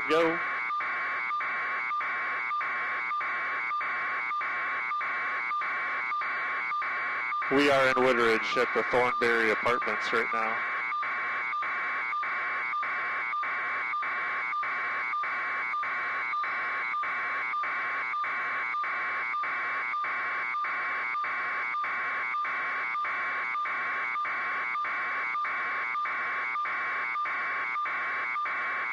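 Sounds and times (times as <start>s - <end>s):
electronic alarm beeping: 0.0s - 28.9s.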